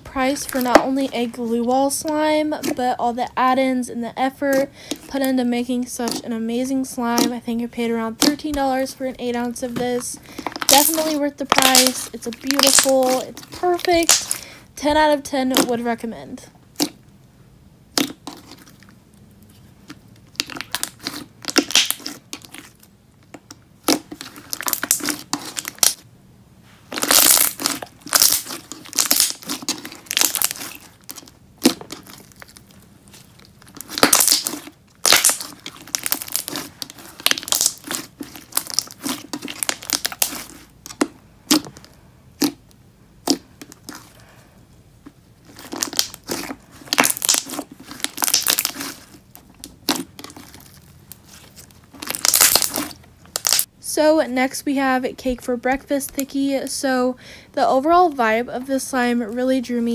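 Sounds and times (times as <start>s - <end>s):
slime squelching and crackling: 0.0s - 17.1s, 17.9s - 26.0s, 26.8s - 44.4s, 45.0s - 57.1s.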